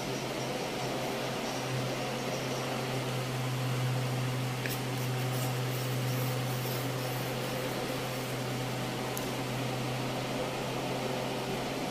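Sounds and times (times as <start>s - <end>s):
low mechanical hum: 0.0s - 11.9s.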